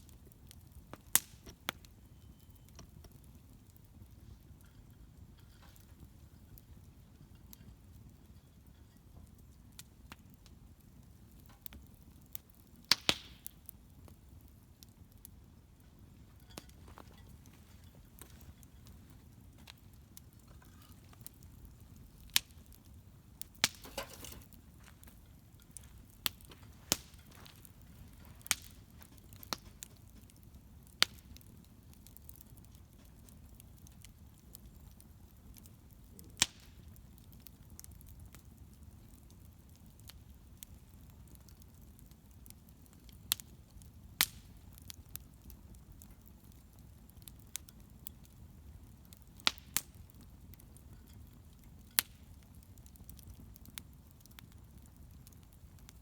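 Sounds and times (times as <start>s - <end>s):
bonfire crackling: 0.0s - 56.0s.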